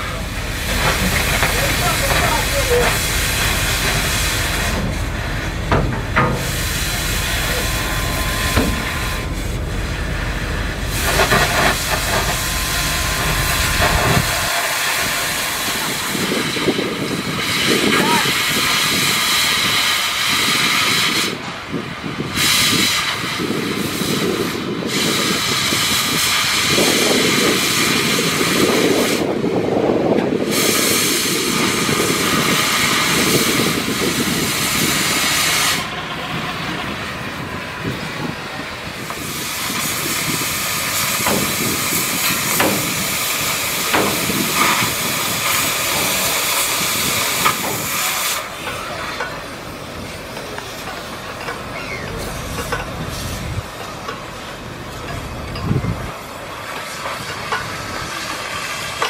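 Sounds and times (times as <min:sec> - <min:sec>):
cutting torch hissing: 0:00.0 - 0:59.0.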